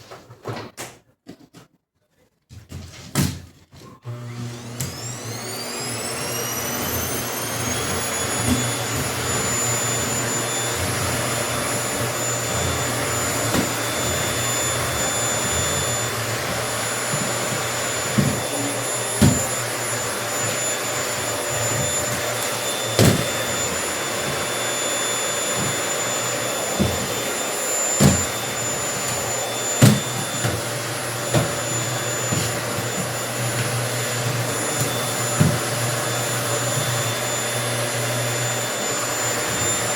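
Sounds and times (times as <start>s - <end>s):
vacuum cleaner motor whining: 3.8s - 39.9s.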